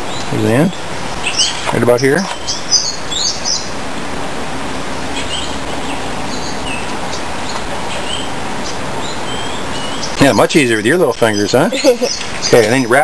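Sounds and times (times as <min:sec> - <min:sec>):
high bird chirps: 0:00.0 - 0:03.8, 0:05.1 - 0:13.0
steady background noise: 0:00.0 - 0:13.0.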